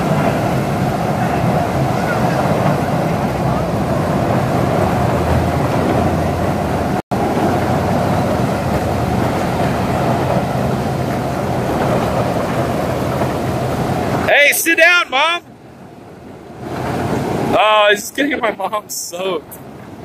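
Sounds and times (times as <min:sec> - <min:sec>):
churning water: 0:00.0 - 0:20.0.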